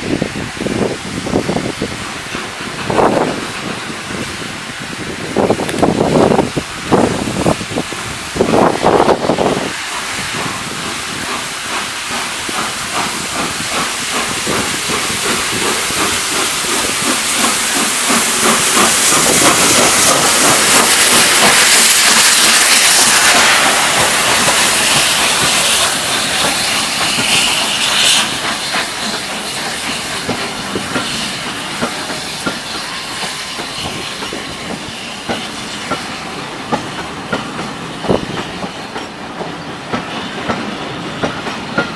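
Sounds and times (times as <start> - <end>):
loud steady hiss of steam: 0.0 - 41.9
steam locomotive departing: 0.0 - 41.9.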